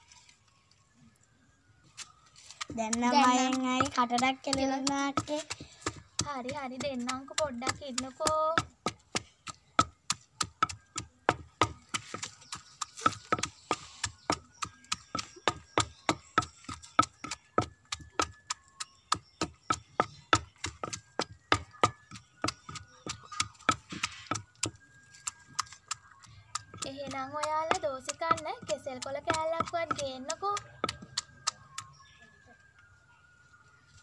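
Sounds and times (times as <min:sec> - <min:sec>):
wooden pestle pounding in mortar: 0:02.7 - 0:32.0.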